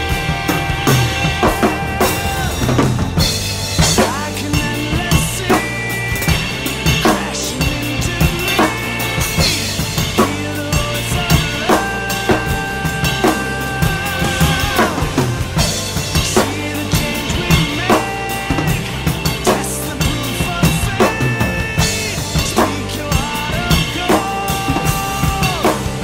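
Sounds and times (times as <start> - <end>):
drum kit groove: 0.0 - 26.0
jazz-rock recording: 0.0 - 26.0.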